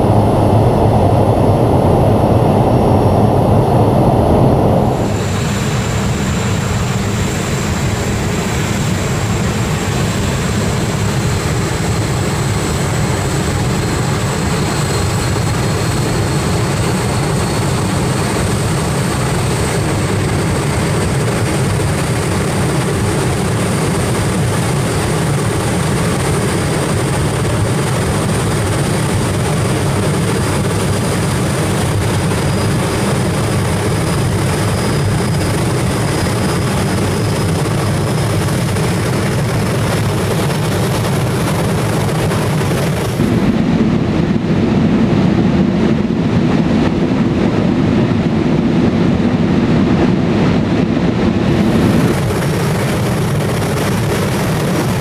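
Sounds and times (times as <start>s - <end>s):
jet engine roaring with whine: 0.0s - 55.0s.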